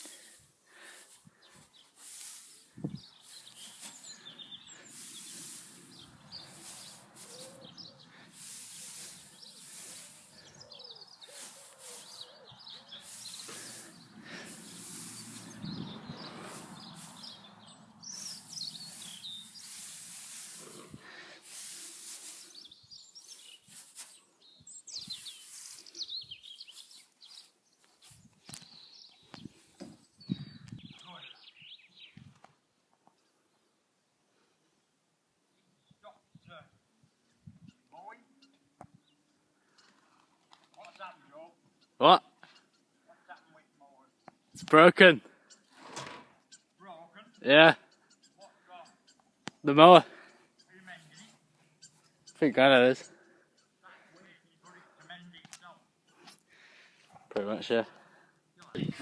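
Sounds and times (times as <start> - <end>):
small birds chirping: 0.0 - 45.8, 46.4 - 59.0.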